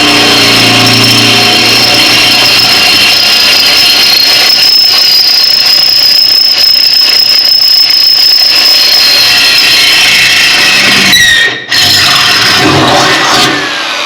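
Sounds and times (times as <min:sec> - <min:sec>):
drill bit squealing through metal: 0:00.0 - 0:14.0.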